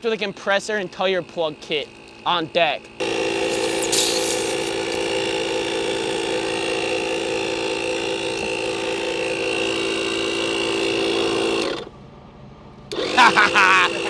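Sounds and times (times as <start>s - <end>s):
air compressor whining: 0.0s - 14.0s.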